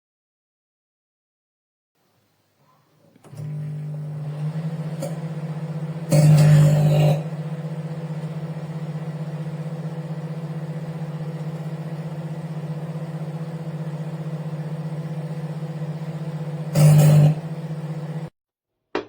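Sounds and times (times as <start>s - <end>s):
microwave oven humming: 3.0s - 18.3s.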